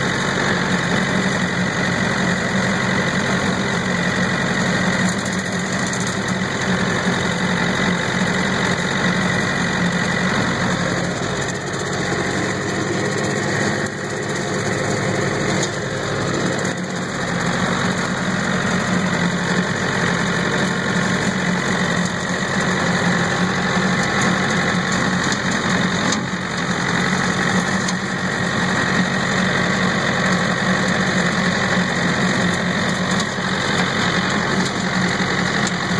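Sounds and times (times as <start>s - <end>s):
tractor engine and rotary cutter: 0.0s - 35.9s.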